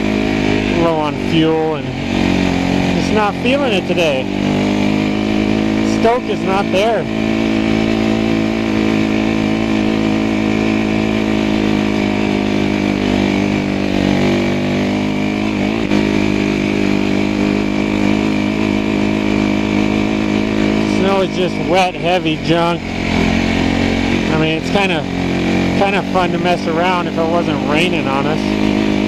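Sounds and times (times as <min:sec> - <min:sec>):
snow bike engine running: 0:00.0 - 0:29.0.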